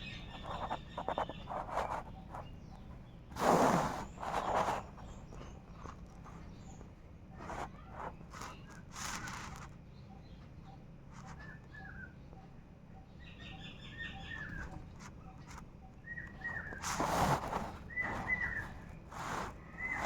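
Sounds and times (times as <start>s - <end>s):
bird calls: 0.0s - 7.0s, 10.0s - 20.0s.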